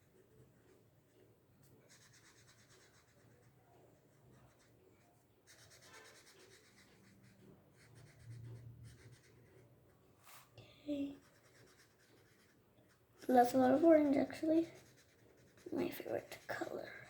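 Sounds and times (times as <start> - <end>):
marker scratching on paper: 0.0 - 3.6, 4.2 - 4.8, 5.4 - 9.6, 11.1 - 17.0.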